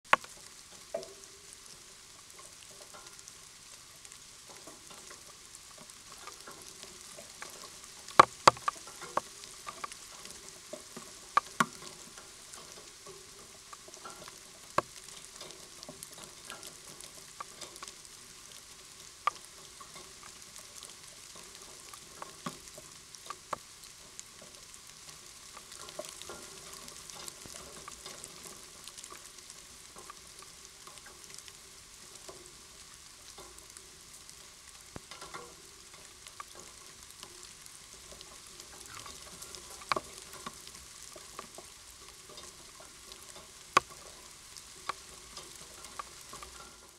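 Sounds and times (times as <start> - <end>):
rain pattering on leaves: 0.0 - 46.9.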